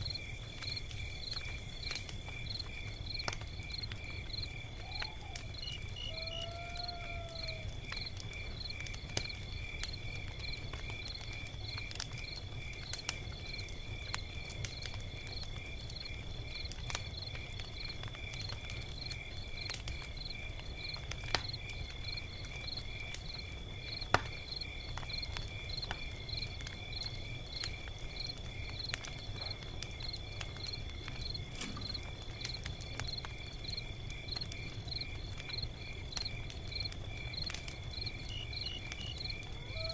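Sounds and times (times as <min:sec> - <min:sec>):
insects chirping: 0:00.0 - 0:39.9
log fire crackling and popping: 0:00.0 - 0:39.9.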